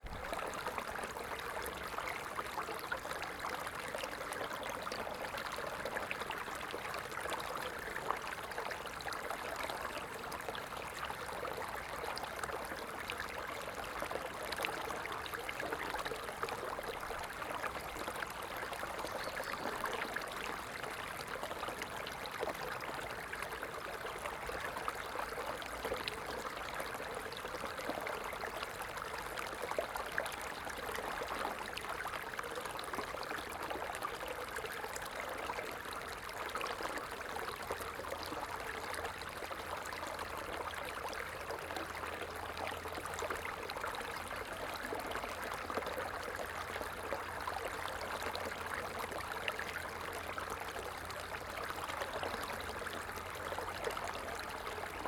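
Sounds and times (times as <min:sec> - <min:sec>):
stream trickling and bubbling: 0:00.0 - 0:55.0.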